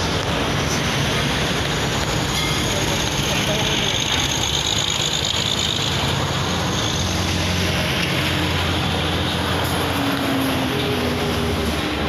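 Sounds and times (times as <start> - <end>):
cars and trucks passing: 0.0 - 12.0.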